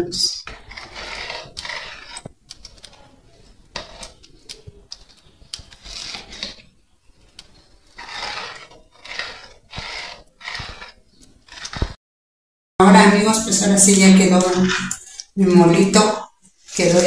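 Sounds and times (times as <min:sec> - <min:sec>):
spoon scraping pot: 0:00.4 - 0:12.0, 0:13.4 - 0:17.0.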